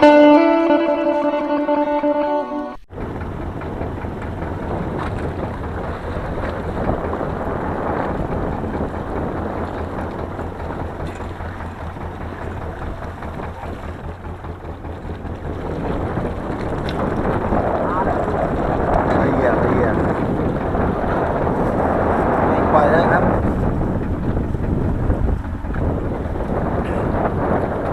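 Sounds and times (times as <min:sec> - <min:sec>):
steady low rumble: 0:00.0 - 0:27.9
wind buffeting microphone: 0:02.9 - 0:27.9.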